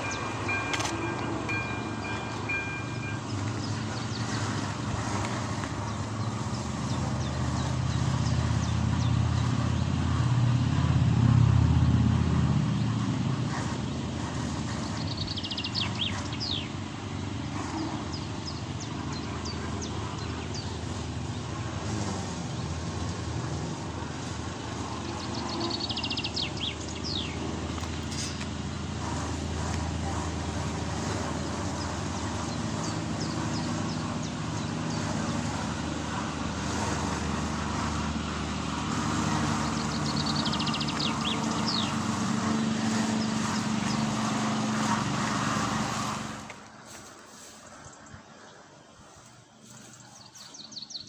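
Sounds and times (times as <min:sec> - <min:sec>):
birds chirping: 0:00.0 - 0:10.2, 0:12.7 - 0:51.0
vehicle passing: 0:00.0 - 0:51.0.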